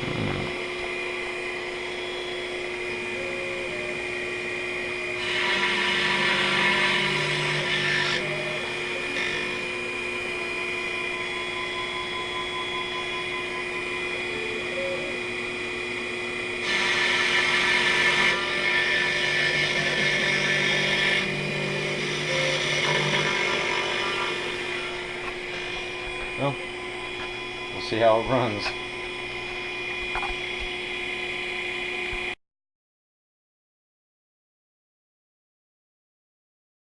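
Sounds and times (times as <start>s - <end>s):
mill cutting metal: 0.0s - 32.4s
mill spindle whine: 0.0s - 32.4s.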